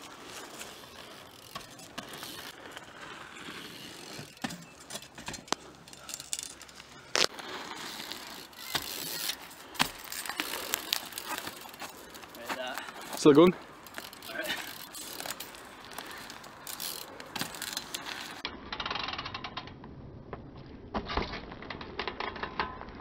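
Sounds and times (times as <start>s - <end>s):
bike rattling and clicking: 0.0s - 23.0s.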